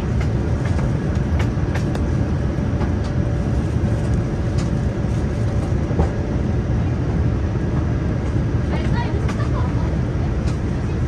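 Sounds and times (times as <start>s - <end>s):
airliner low rumble: 0.0s - 11.0s.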